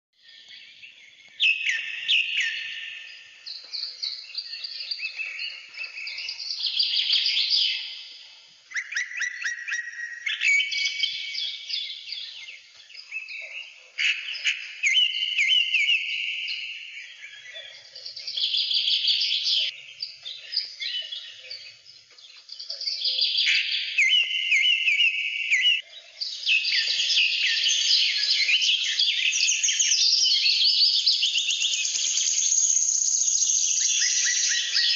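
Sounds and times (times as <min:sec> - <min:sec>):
birds chirping and singing: 0:00.2 - 0:34.9.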